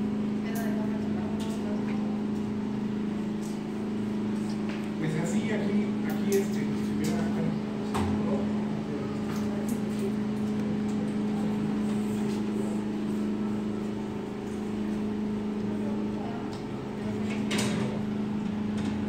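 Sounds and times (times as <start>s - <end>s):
gate motor electric hum: 0.0s - 19.0s.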